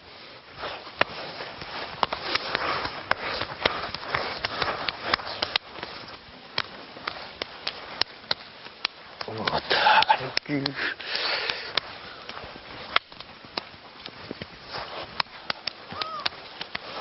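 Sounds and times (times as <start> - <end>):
steady hiss: 0.0 - 17.0
hands slapping sticks: 0.6 - 17.0
sticks clacking together: 1.0 - 14.5, 15.2 - 17.0.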